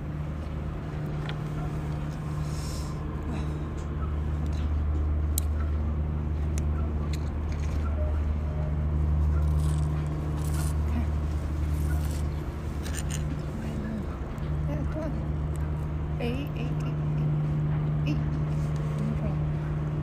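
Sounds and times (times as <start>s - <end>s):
ship engine drone: 0.0s - 20.0s.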